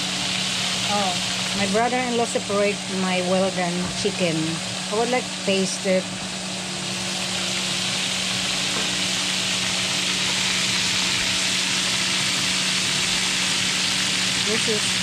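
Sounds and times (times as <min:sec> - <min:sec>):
chicken sizzling in oil: 0:00.0 - 0:15.0
low hum: 0:00.0 - 0:15.0.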